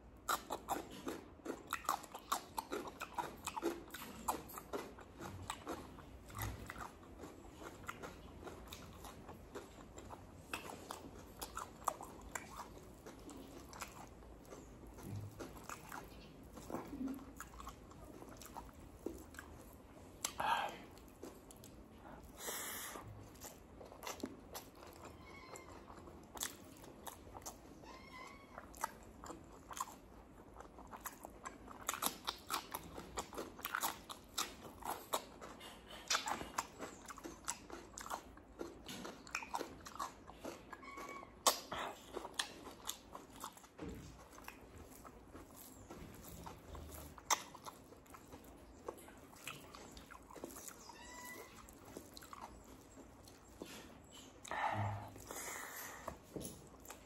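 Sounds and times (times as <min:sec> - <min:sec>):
wet chewing and lip smacks: 0:00.0 - 0:57.0.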